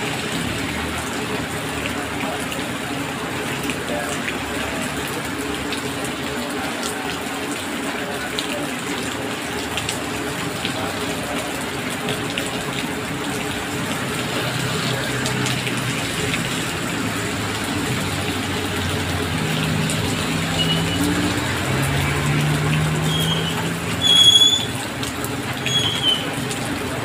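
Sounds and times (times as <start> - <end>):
heavy rain on wet road: 0.0 - 27.0
vehicles passing through water: 0.0 - 27.0.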